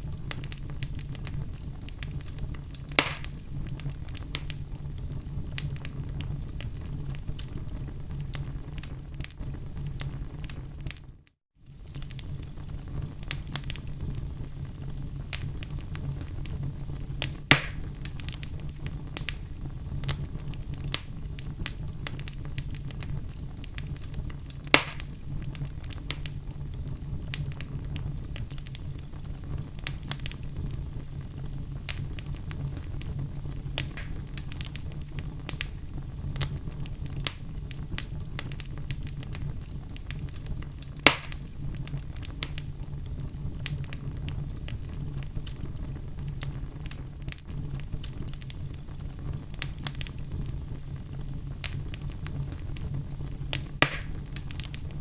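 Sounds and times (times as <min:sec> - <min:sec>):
loud fire pops: 0:00.0 - 0:55.0
wood fire crackling: 0:00.0 - 0:55.0.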